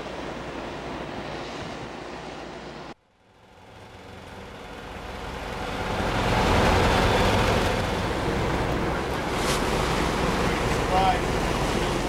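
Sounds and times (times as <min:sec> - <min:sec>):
boat engine low rumble: 0:00.0 - 0:12.0
sea and wind noise: 0:00.0 - 0:12.0.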